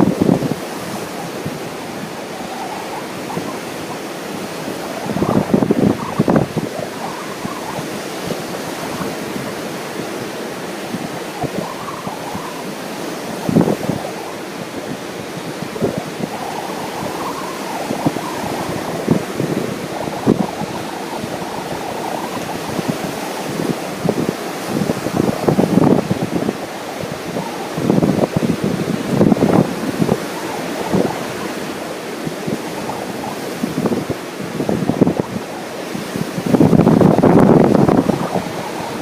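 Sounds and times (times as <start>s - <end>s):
ocean surf washing on beach: 0.0s - 39.0s
wind buffeting microphone: 0.0s - 39.0s.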